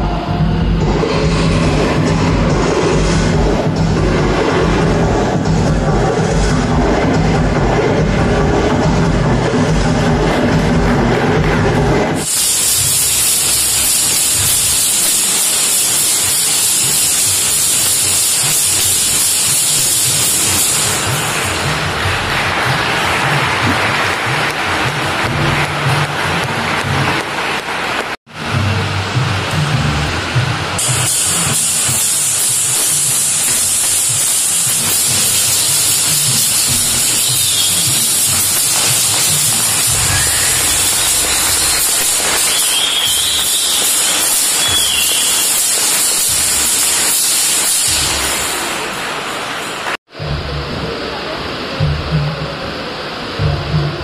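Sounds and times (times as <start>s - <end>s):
low uneven throb: 0.0s - 27.5s, 28.3s - 42.6s, 50.1s - 54.0s
loud high hiss: 0.0s - 54.0s.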